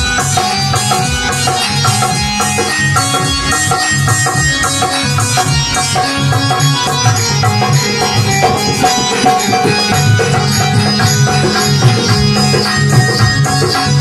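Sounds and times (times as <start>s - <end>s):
heavy drum beat: 0.0s - 14.0s
plucked string music: 0.0s - 14.0s.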